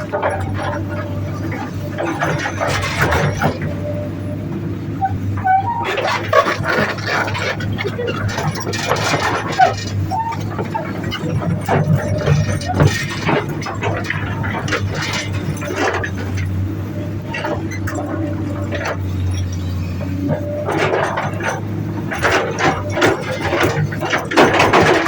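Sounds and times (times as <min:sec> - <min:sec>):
clinks of rock and metal: 0:00.0 - 0:04.1, 0:05.4 - 0:25.0
excavator diesel engine running: 0:00.0 - 0:25.0.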